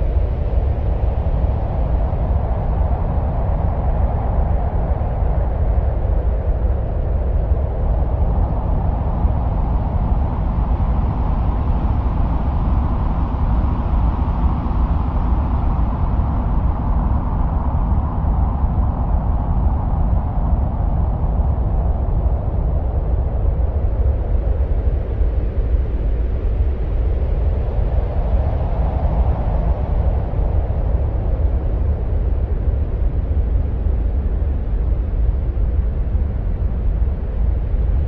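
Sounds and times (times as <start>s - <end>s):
deep wind-like rumble: 0.0s - 38.0s.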